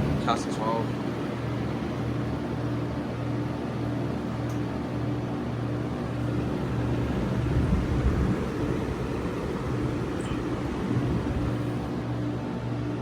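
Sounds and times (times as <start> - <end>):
compressor hum: 0.0 - 13.0
condenser fan rushing: 0.0 - 13.0.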